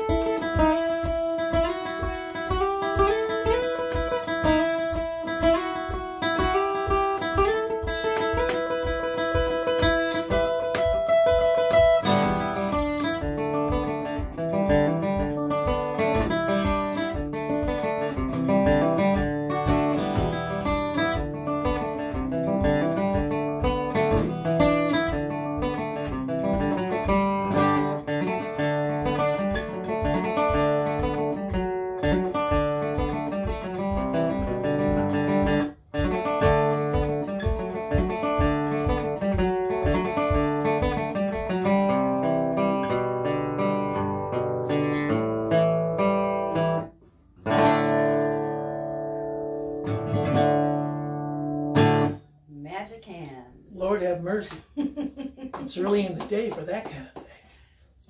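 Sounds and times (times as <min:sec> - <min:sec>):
acoustic guitar picking: 0:00.0 - 0:57.5.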